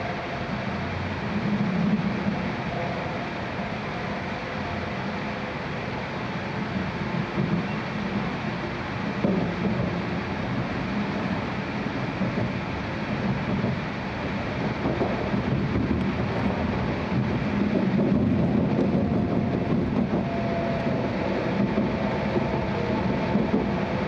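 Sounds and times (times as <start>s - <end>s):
train cabin low rumble: 0.0s - 24.0s.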